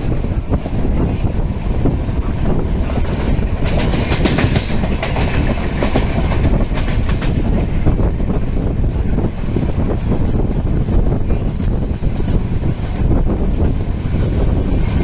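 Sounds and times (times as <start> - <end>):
clatter over rail joints: 0.0 - 15.0
train wheels rumbling on rails: 0.0 - 15.0.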